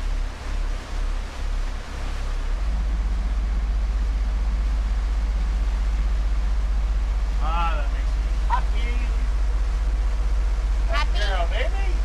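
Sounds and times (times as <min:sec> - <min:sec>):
boat diesel engines throbbing: 0:00.0 - 0:12.0
wake water rushing: 0:00.0 - 0:12.0
wind: 0:00.0 - 0:12.0.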